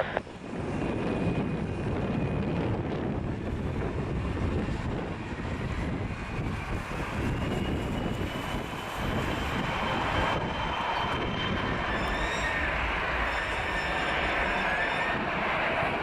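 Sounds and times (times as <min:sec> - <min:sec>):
jet engine whine: 0:00.0 - 0:16.0
wind rumble on microphone: 0:00.0 - 0:16.0.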